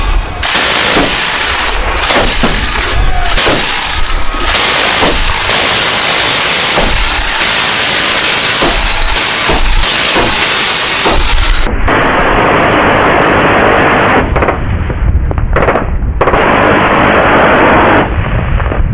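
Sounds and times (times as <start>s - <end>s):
rotary machine gun firing: 0.4s - 18.9s.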